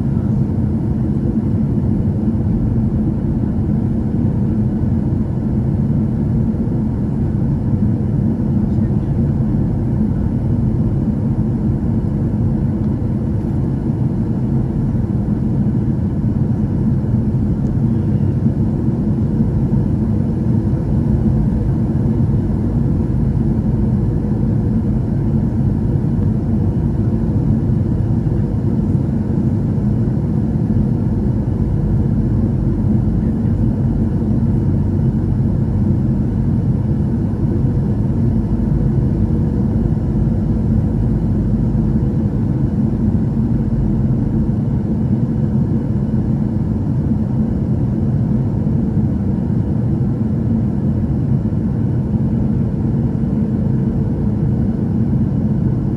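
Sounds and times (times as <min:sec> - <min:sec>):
faint steady hum: 0:00.0 - 0:50.6
aircraft engines rumbling: 0:00.0 - 0:55.9.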